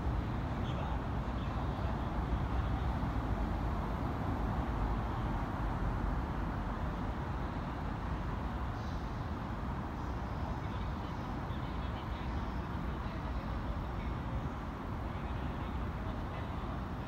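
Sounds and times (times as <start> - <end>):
low rumble of city and railway: 0.0 - 17.0.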